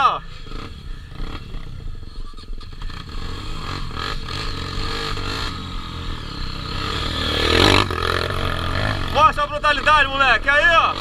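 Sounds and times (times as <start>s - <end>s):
motorcycle engine under load: 0.2s - 9.6s
bike rattling and scraping: 0.4s - 10.2s.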